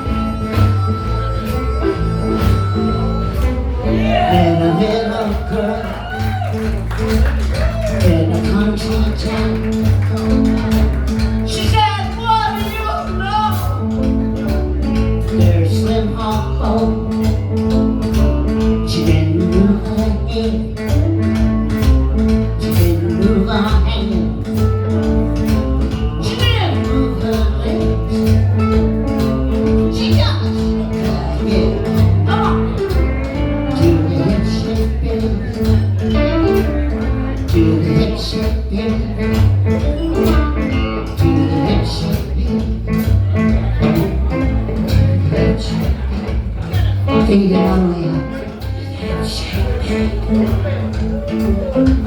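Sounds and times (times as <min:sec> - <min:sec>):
blues band playing: 0:00.0 - 0:52.0
drums keeping steady beat: 0:00.0 - 0:52.0
guitar: 0:00.0 - 0:52.0
walking bass line: 0:00.0 - 0:52.0.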